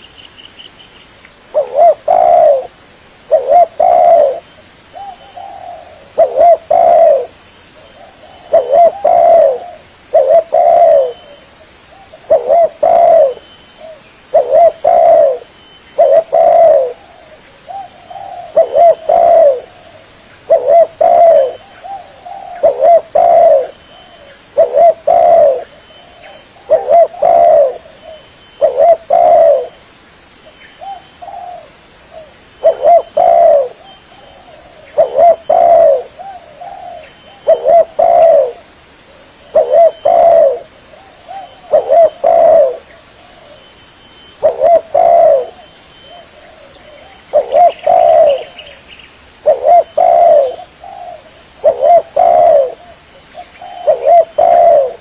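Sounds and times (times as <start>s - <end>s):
dove cooing: 1.4s - 29.8s, 30.8s - 48.8s, 49.4s - 55.0s.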